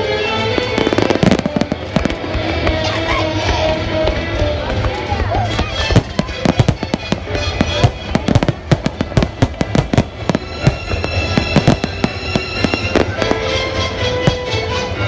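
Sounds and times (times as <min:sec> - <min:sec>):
fireworks bangs and crackles: 0:00.0 - 0:15.0
music soundtrack: 0:00.0 - 0:15.0.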